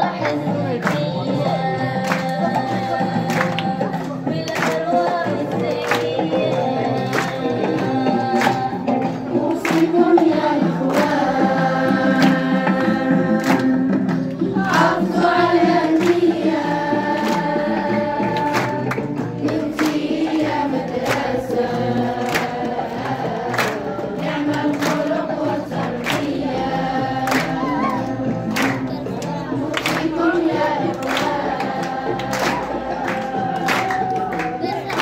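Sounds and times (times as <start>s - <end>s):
choir singing: 0.0s - 35.0s
music with percussive beat: 0.0s - 35.0s.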